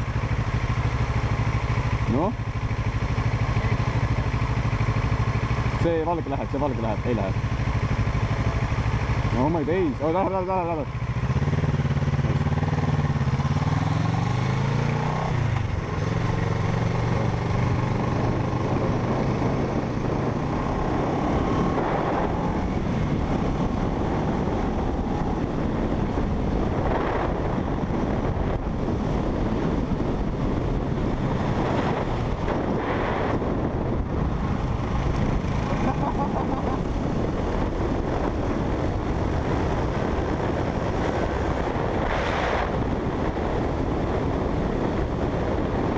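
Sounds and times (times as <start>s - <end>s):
motorcycle engine accelerating: 0.0s - 45.9s
wind rush on microphone: 0.0s - 45.9s.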